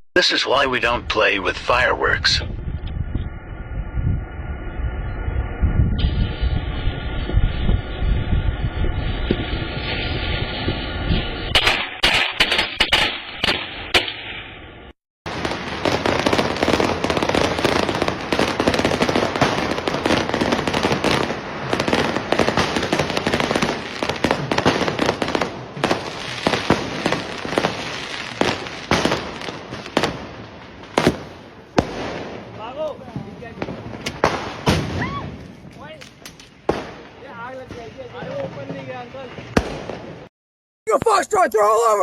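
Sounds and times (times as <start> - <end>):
firecrackers crackling: 5.4 - 14.6, 15.3 - 40.3.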